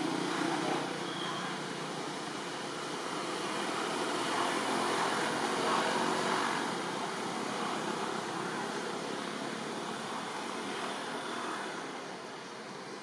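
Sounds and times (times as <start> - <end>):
steady rushing background noise: 0.0 - 13.0.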